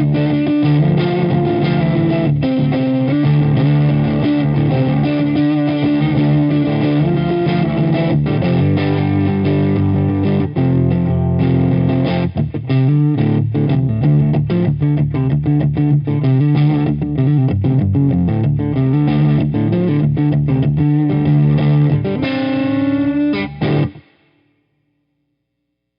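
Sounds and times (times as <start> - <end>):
distorted electric guitar: 0.0 - 24.5.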